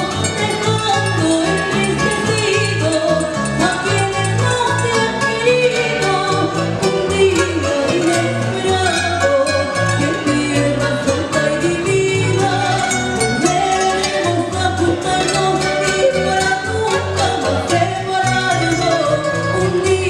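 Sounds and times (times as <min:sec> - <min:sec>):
acoustic guitars: 0:00.0 - 0:20.0
live band playing: 0:00.0 - 0:20.0
woman singing into a microphone: 0:00.0 - 0:20.0.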